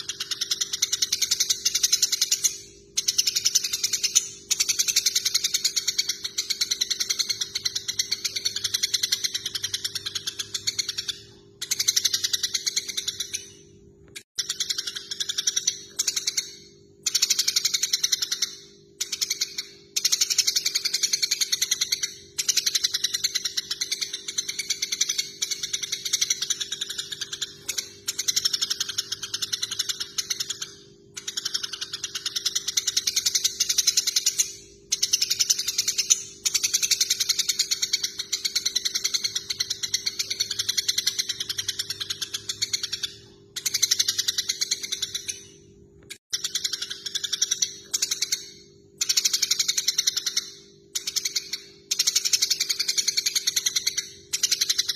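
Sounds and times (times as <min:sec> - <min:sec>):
sparrows chattering: 0:00.0 - 0:54.9.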